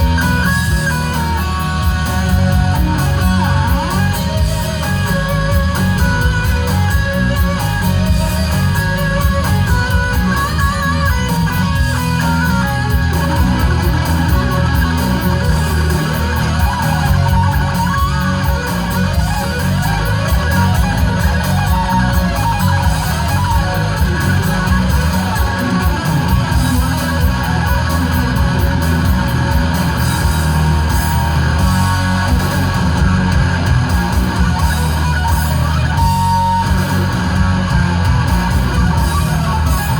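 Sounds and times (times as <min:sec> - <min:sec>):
heavy metal band backing: 0:00.0 - 0:39.9
shred electric guitar lead: 0:00.0 - 0:39.9.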